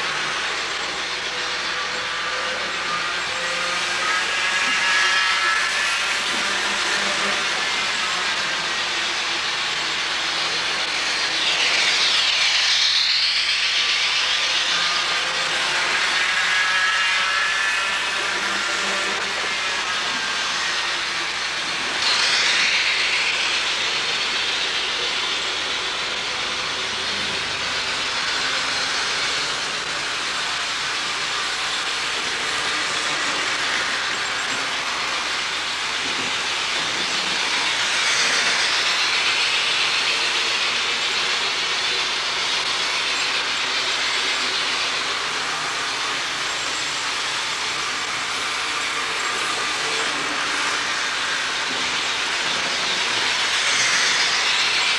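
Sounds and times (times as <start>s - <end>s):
model trains whirring on track: 0.0s - 54.9s.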